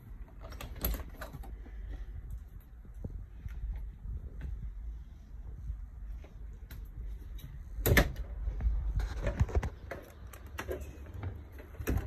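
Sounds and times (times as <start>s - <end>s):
low rumble of handling: 0.0s - 12.0s.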